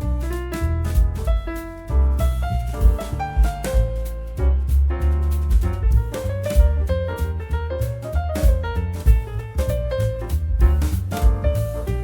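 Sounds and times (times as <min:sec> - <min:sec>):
light jazzy piano music: 0:00.0 - 0:12.0.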